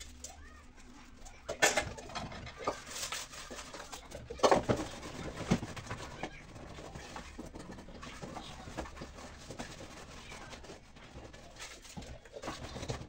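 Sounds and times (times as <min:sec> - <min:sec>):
dishes and pans clattering: 0:01.4 - 0:13.0.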